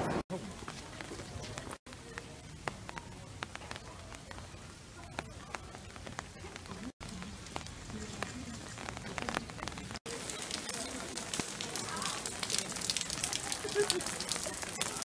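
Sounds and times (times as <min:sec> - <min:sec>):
faint voices: 0:00.0 - 0:15.0
light rain on stone paving: 0:00.3 - 0:15.0.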